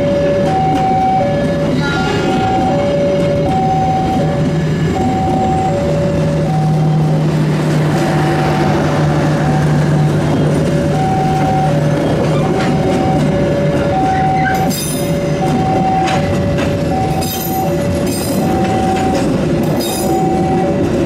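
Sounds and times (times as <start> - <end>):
level-crossing alarm: 0.0 - 7.3, 9.2 - 21.0
train wheels rumbling on rails: 0.0 - 21.0.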